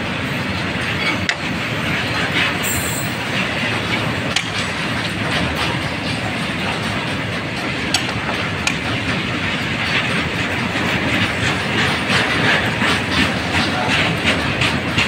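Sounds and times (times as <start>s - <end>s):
freight train wheels rumbling: 0.0s - 15.0s
wheels clacking over rail joints: 0.0s - 15.0s.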